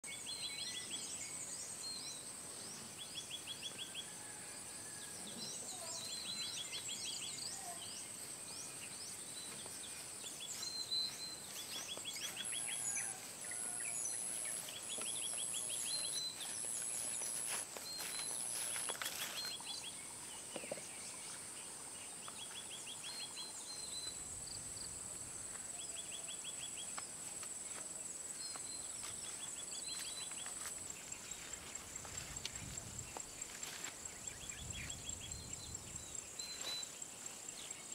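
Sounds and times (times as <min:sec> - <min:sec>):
birds chirping and trilling: 0:05.2 - 0:27.1, 0:28.0 - 0:37.9.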